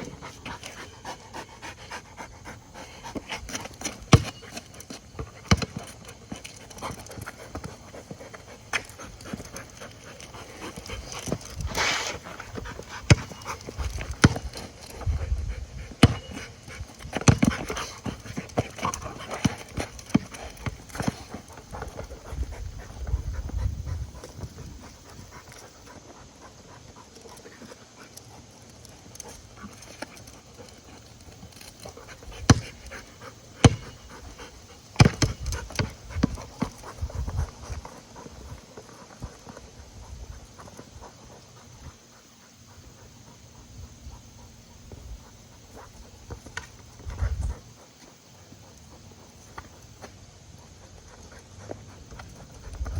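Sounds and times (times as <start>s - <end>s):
dog panting: 0.0s - 52.9s.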